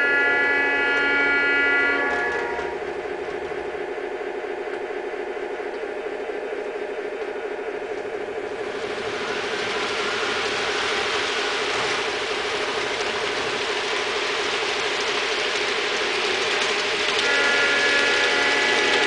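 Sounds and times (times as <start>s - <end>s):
model train whirring on track: 0.0s - 19.0s.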